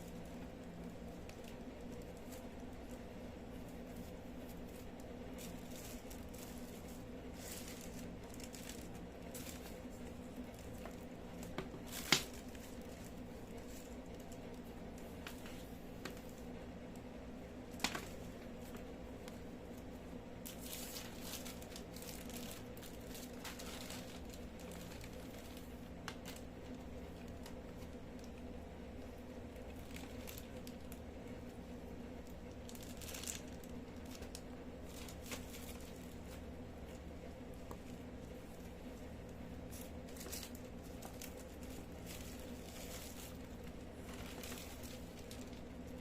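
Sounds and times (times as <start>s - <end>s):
plastic packaging crinkling: 0.0s - 16.5s, 17.7s - 46.0s
steady low hum: 0.0s - 46.0s.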